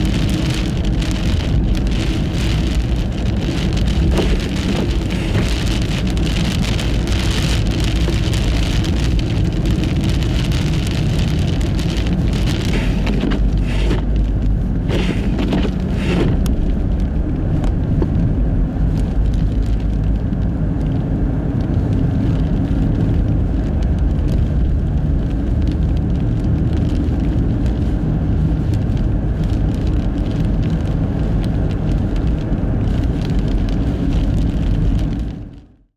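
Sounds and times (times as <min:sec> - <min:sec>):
fine crackling patter: 0:00.0 - 0:35.6
tyre and wind rumble: 0:00.0 - 0:35.6.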